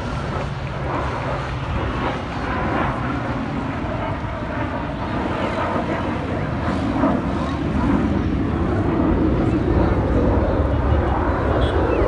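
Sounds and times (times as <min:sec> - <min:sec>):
fighter jet engine rush: 0:00.0 - 0:12.0.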